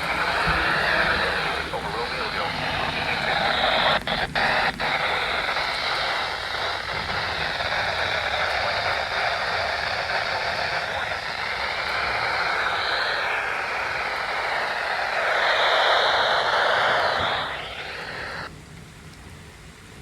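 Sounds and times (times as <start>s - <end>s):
faint garbled voice: 0.0s - 18.5s
radio static hiss: 0.0s - 18.5s.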